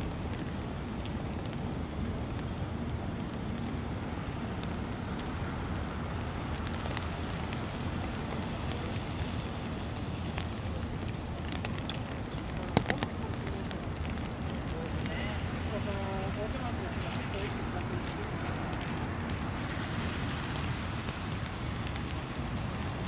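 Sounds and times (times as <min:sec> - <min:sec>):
faint ticks and crackles: 0:00.0 - 0:23.0
traffic rumble: 0:00.0 - 0:23.0.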